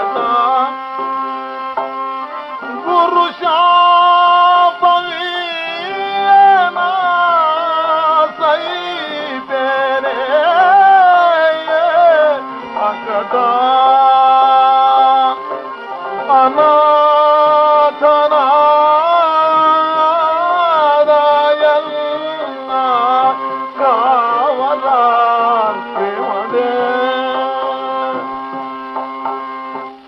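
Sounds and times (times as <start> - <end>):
man singing ornamented song: 0.0 - 1.1, 2.5 - 29.1
sustained instrumental drone: 0.0 - 30.0.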